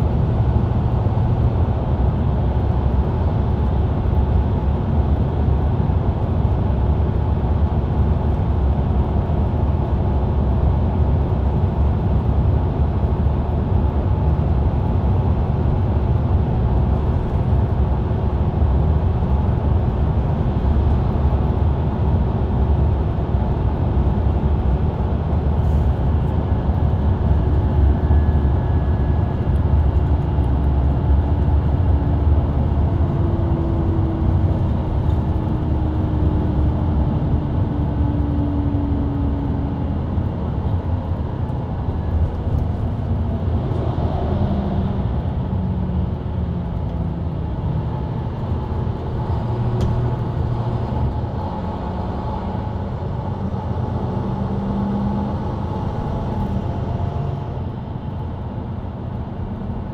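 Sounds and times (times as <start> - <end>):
bus engine drone: 0.0 - 59.9.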